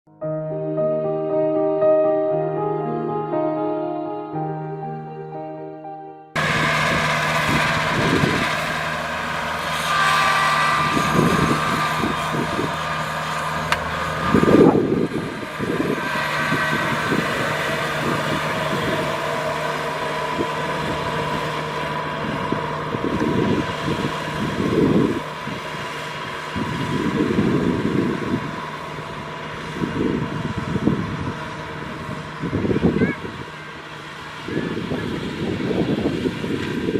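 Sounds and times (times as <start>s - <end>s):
combine harvester droning: 0.2s - 36.9s.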